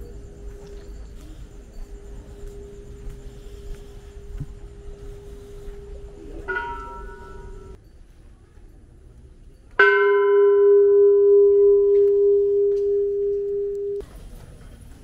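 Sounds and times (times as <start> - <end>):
temple bell ringing: 0.0 - 8.0, 9.8 - 14.0.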